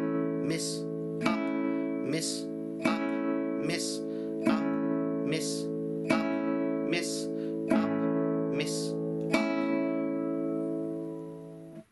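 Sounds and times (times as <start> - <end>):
guitar chord up strums: 0.0 - 11.9.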